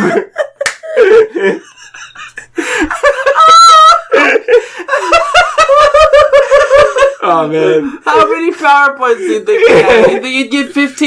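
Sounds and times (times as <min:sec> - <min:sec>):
person laughing: 0:00.0 - 0:08.0, 0:09.4 - 0:10.4.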